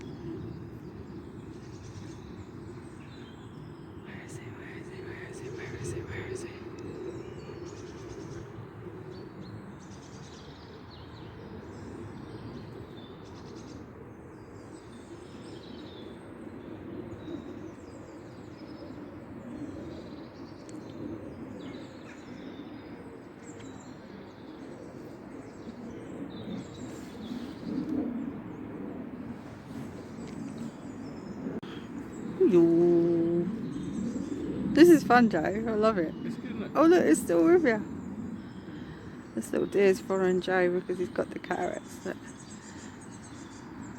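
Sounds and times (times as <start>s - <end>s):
small birds chirping: 0.0s - 28.7s, 29.4s - 43.9s.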